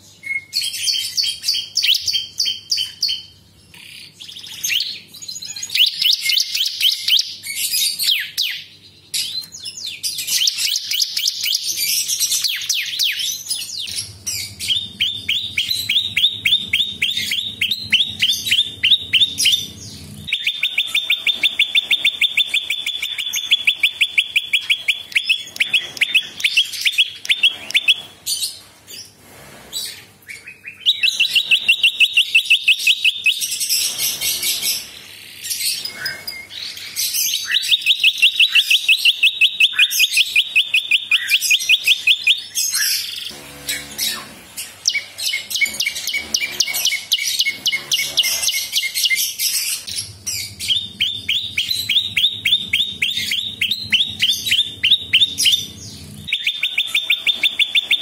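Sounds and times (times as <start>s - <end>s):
rapid repeated sharp bird notes: 0.0s - 9.4s, 10.0s - 58.0s
bird chirping and trilling: 0.0s - 58.0s.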